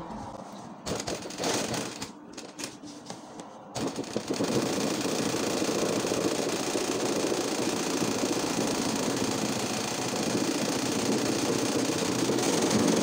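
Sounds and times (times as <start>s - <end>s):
sewing machine stitching: 0.8s - 2.8s, 3.8s - 13.0s.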